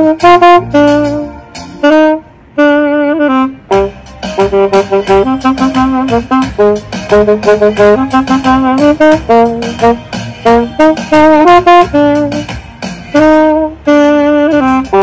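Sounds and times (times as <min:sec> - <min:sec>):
saxophone jazz melody: 0:00.0 - 0:15.0.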